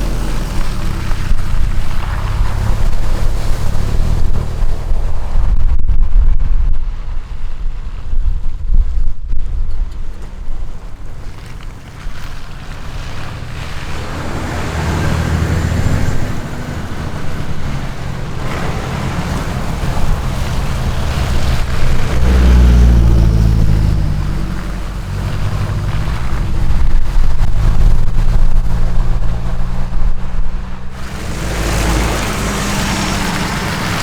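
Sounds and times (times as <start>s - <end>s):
diesel engine revving: 0.0s - 5.8s, 10.7s - 34.0s
wind rumble on microphone: 0.0s - 34.0s.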